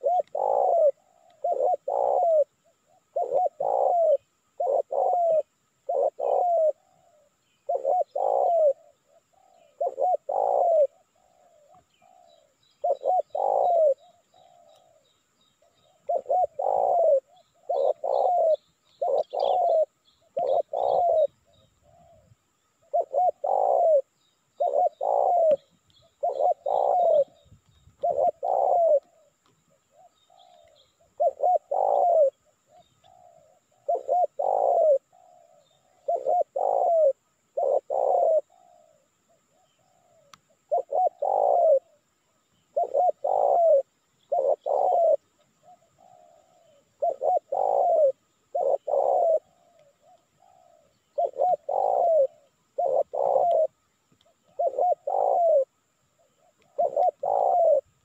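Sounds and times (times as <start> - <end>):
dove cooing: 0.0 - 58.0
small birds chirping: 0.0 - 58.0.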